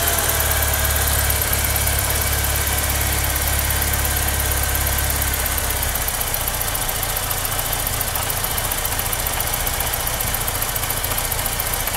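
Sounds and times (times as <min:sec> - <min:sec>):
car engine idling roughly: 0:00.0 - 0:11.9.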